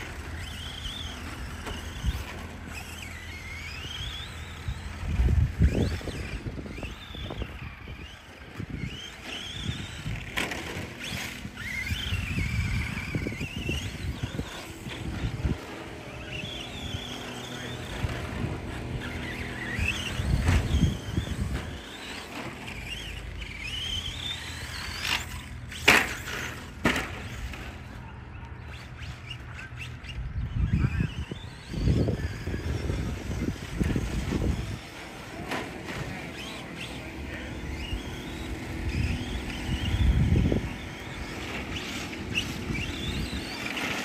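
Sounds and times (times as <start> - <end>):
electric rc car motors whining: 0.0 - 44.0.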